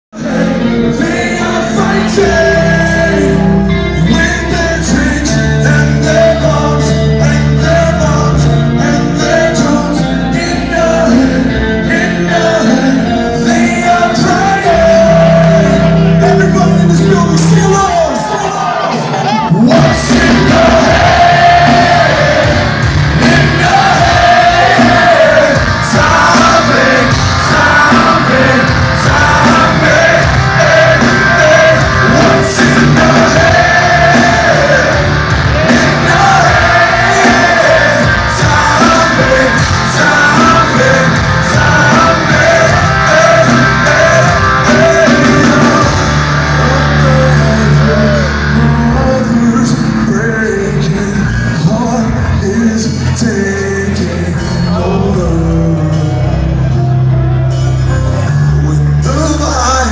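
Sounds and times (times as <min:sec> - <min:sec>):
live rock band with vocals: 0:00.1 - 0:59.9.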